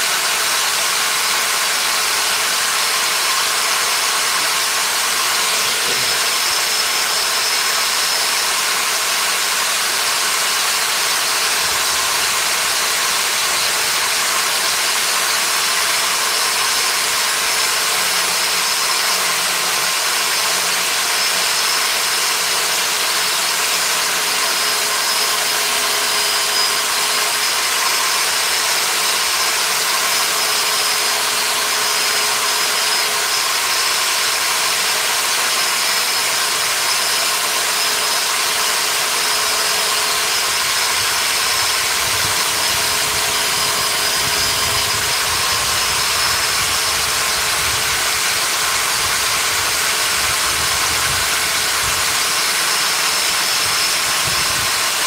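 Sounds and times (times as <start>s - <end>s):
power tool motor whining: 0.0s - 55.0s.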